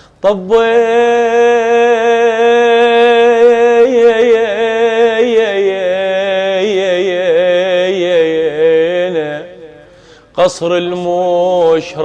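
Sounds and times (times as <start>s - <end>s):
man chanting: 0.2s - 12.0s.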